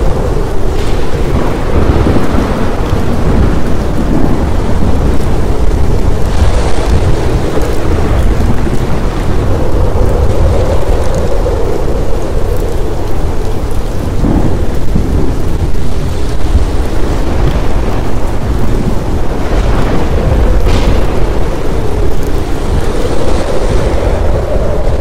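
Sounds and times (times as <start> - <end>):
deep rolling thunder: 0.0 - 25.0
heavy rain falling: 0.0 - 25.0.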